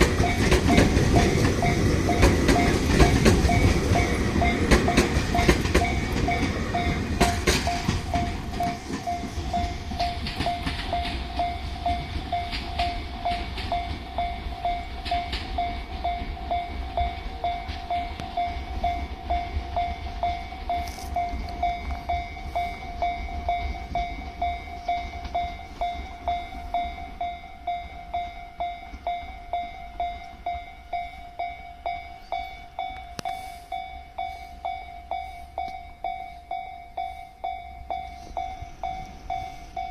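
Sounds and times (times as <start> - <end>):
level-crossing warning bell: 0.0 - 39.9
train wheels clicking over rail joints: 0.0 - 39.9.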